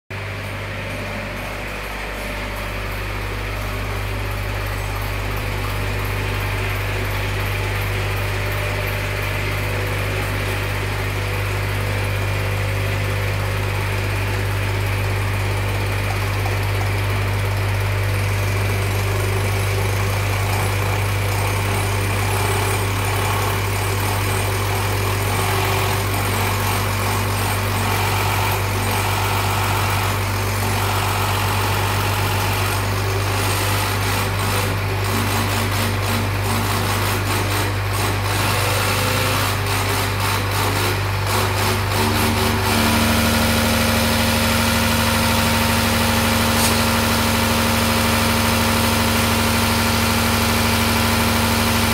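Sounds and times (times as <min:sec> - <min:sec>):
machine humming: 0:00.1 - 0:47.5.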